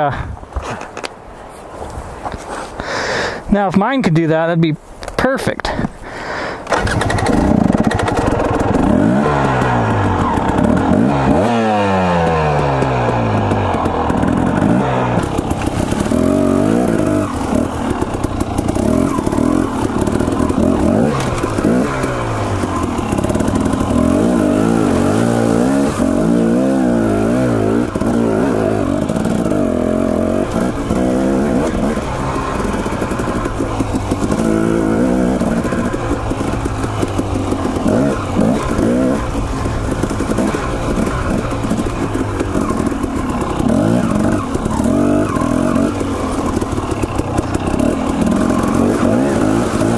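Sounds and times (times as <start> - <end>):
dirt bike engine revving: 6.7 - 49.9.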